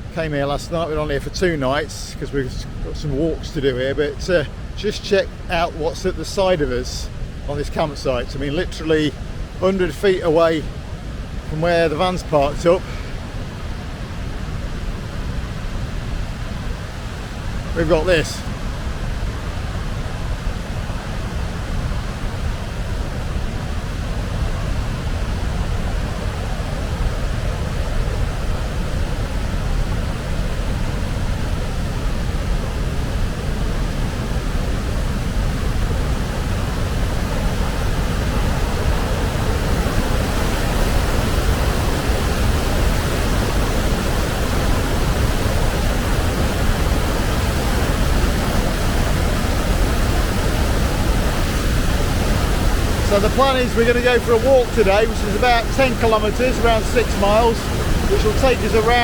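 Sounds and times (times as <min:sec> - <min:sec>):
waterfall roar: 0:00.0 - 0:59.0.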